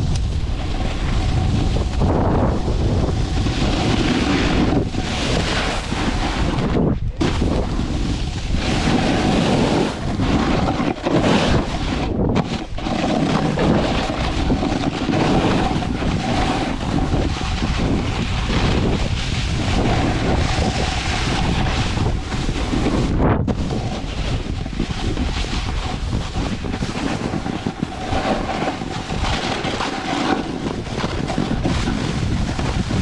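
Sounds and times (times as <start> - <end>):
snowboard scraping over snow: 0.0 - 33.0
wind rushing over microphone: 0.0 - 33.0.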